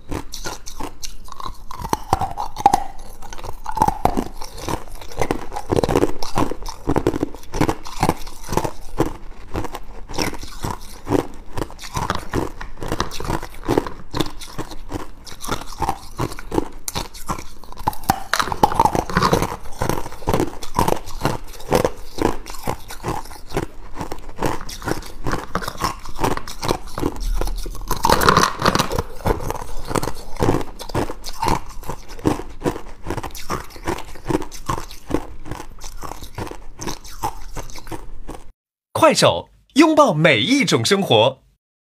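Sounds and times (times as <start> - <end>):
ice cubes crunching: 0.1 - 38.4.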